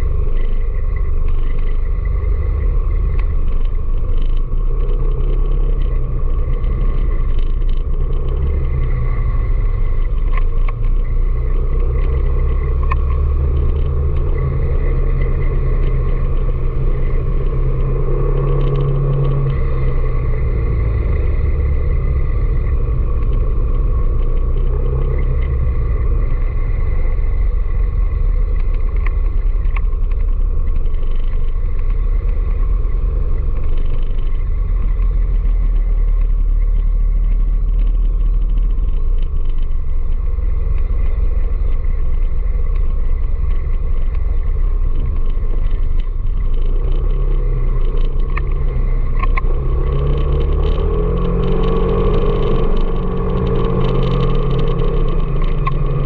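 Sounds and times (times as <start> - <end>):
engine and road noise rumble: 0.0 - 56.0.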